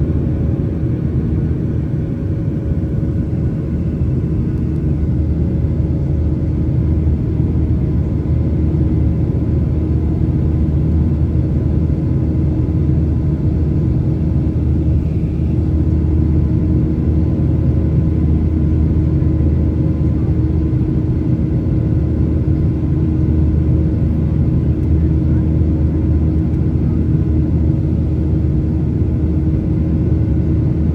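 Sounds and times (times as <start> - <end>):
jet engine and airflow noise: 0.0 - 30.9.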